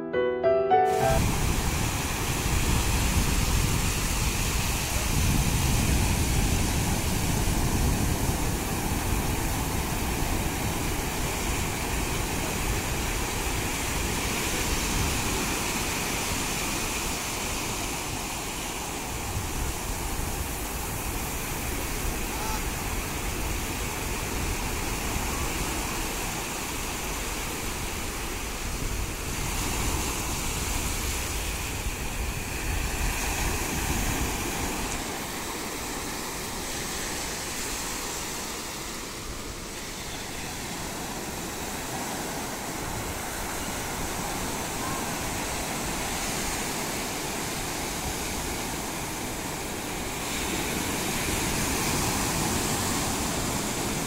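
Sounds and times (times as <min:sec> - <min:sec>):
ocean surf breaking on beach: 0:00.7 - 0:54.0.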